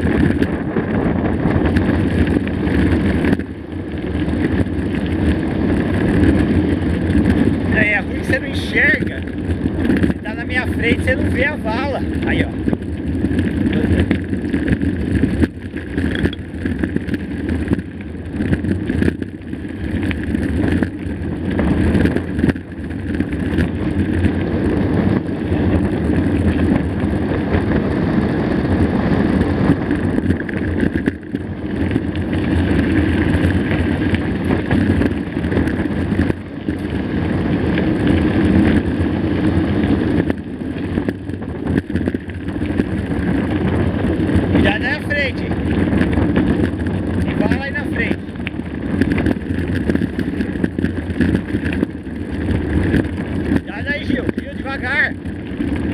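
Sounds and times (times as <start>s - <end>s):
bike jolting and rattling: 0.0s - 55.9s
bike tyres on dirt trail: 0.0s - 55.9s
wind on microphone: 0.0s - 55.9s.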